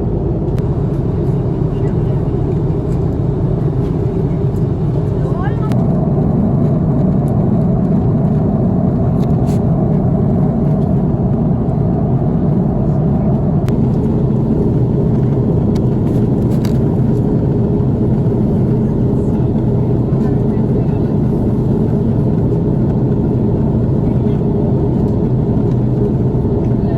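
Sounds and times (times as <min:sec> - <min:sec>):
airliner cabin noise: 0:00.0 - 0:26.9.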